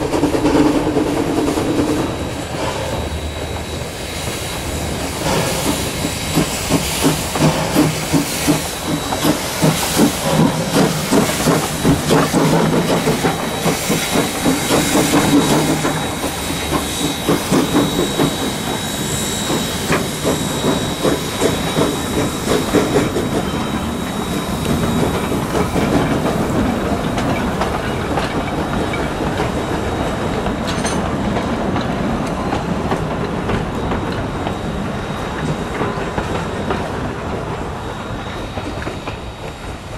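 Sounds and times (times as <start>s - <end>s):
steam hissing: 0.0s - 39.9s
steam locomotive exhaust beats: 0.0s - 39.9s.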